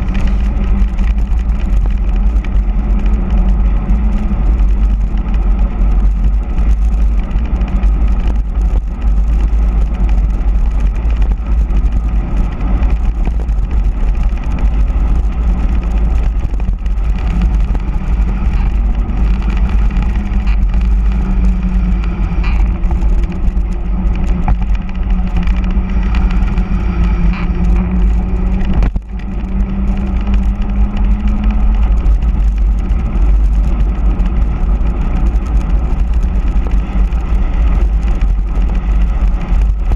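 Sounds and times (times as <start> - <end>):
tyres humming on asphalt: 0.0 - 39.9
wind buffeting microphone: 0.0 - 39.9.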